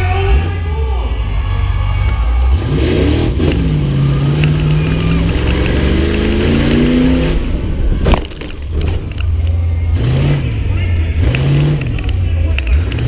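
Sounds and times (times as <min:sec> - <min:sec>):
engine pulling hard: 0:00.0 - 0:13.0.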